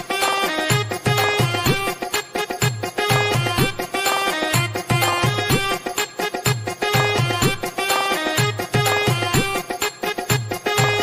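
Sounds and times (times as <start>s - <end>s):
melody over drum beat: 0.0s - 11.0s.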